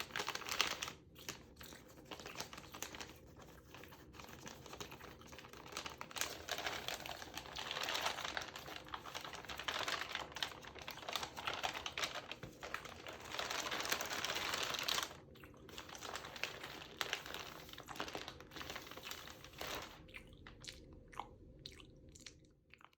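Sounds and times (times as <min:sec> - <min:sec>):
magazine pages crinkling: 0:00.0 - 0:20.0.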